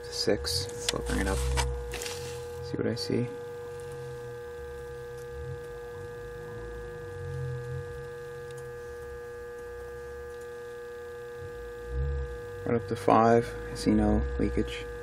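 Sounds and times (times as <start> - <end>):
electrical tester humming: 0.0 - 15.0.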